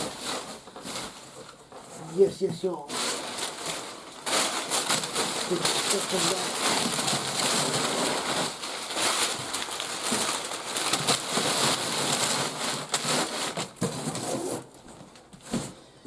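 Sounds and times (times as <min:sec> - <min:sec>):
packing paper rustling: 0:00.0 - 0:15.8.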